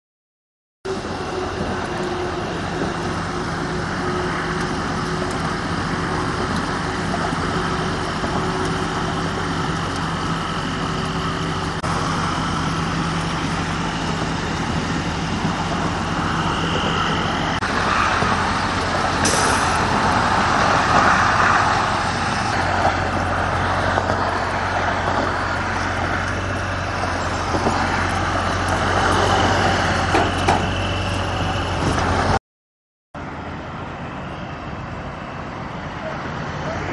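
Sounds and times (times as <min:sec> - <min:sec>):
road noise rush: 0:00.8 - 0:32.4, 0:33.2 - 0:36.9
truck engines idling: 0:00.9 - 0:32.4, 0:33.2 - 0:36.9.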